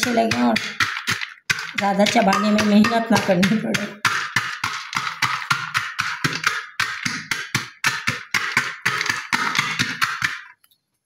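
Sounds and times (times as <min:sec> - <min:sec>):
wooden pestle pounding in metal pot: 0:00.0 - 0:10.6.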